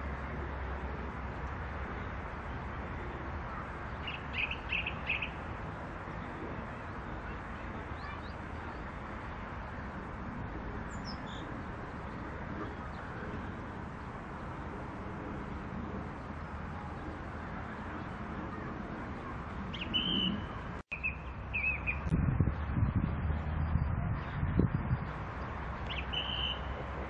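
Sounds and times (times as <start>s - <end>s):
outdoor background noise: 0.0s - 27.0s
birds chirping: 1.9s - 9.9s, 10.8s - 14.7s, 16.1s - 26.8s.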